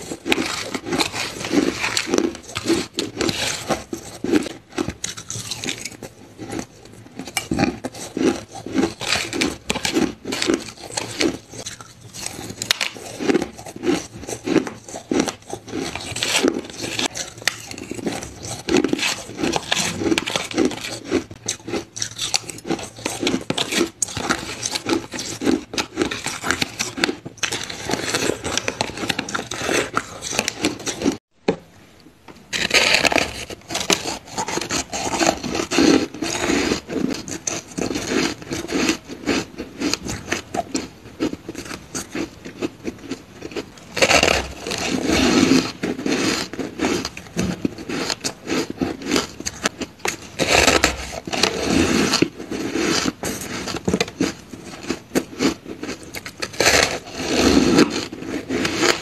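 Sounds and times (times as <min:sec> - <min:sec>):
ice being chewed and crunched: 0:00.0 - 0:31.2, 0:32.5 - 0:59.0.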